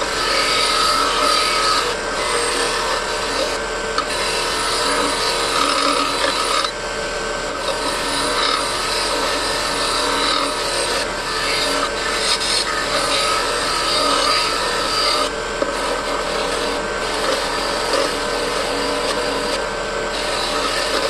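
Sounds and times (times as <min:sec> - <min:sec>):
abrasive rasping on steel: 0:00.0 - 0:06.7, 0:07.6 - 0:21.0.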